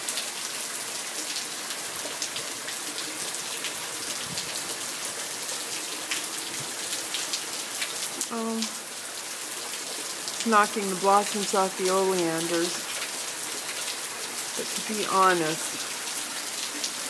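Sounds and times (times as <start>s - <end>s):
heavy rain on paving: 0.0s - 17.0s.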